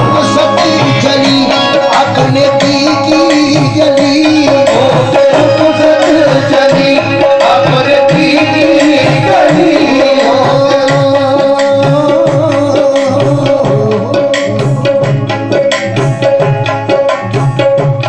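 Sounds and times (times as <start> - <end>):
harmonium melody: 0.0 - 18.0
tabla beat: 0.0 - 18.0.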